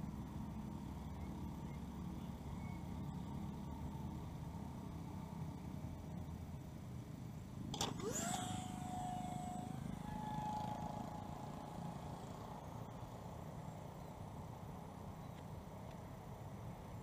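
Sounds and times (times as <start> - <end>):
electric ducted fan whine: 0.0 - 17.0.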